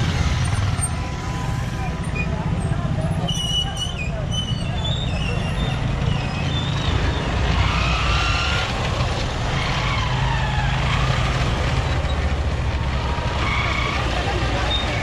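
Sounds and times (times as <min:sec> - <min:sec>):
traffic engine rumble: 0:00.0 - 0:15.0.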